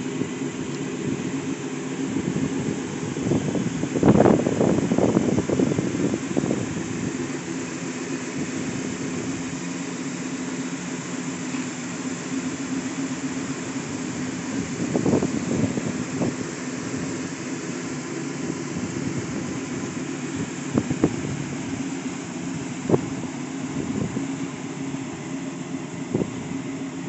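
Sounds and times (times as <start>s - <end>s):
pickup engine idling: 0.0s - 27.0s.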